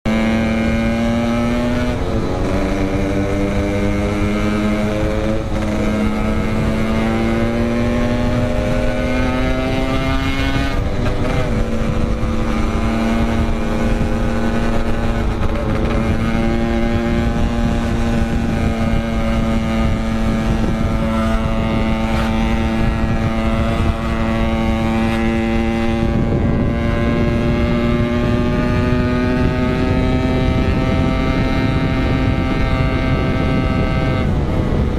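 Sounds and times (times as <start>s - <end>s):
motorcycle engine at high revs: 0.0s - 34.9s.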